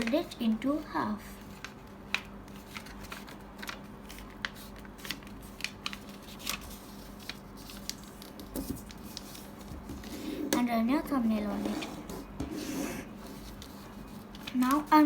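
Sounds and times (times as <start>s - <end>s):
faint steady hum: 0.0s - 15.0s
paper crackling and rustling: 0.0s - 15.0s.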